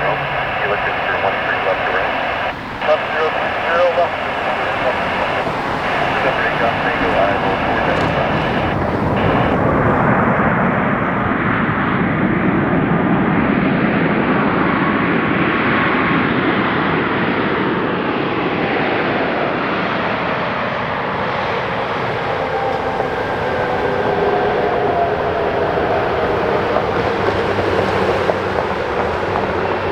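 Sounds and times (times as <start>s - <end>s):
jet engines whining: 0.0s - 29.9s.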